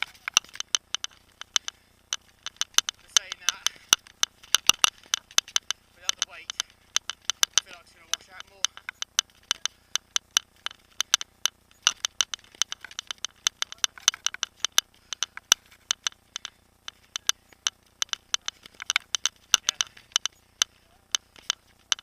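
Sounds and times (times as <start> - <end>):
mountain bike rattling: 0.0 - 22.0.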